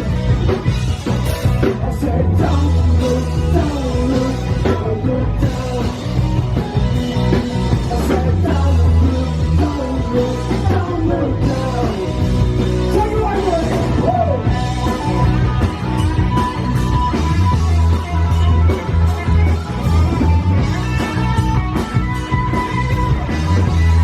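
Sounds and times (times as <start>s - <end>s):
rock band playing live: 0.0s - 24.0s
pitch-bending melodic line: 2.4s - 24.0s.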